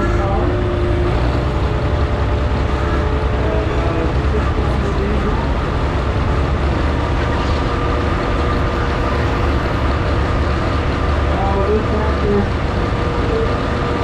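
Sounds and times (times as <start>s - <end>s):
faint steady whine: 0.0s - 13.6s
tractor engine running: 0.0s - 14.0s.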